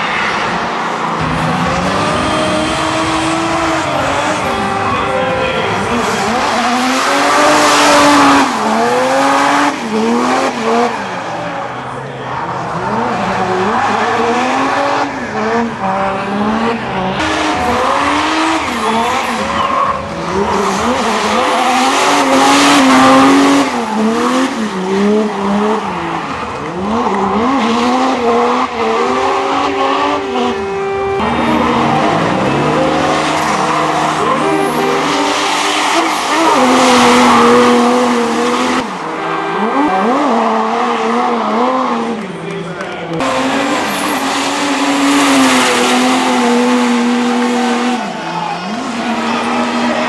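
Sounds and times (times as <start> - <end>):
car engine revving hard: 0.0 - 42.4, 43.1 - 50.0.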